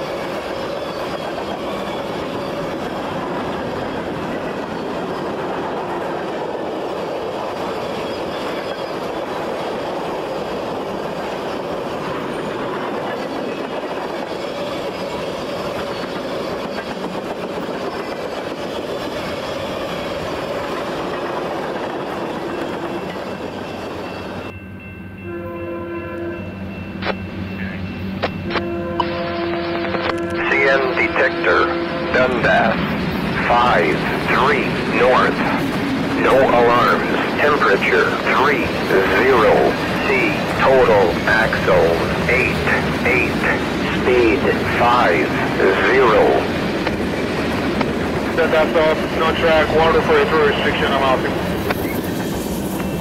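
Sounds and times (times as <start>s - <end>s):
train coaches rumbling past: 0.0s - 53.0s.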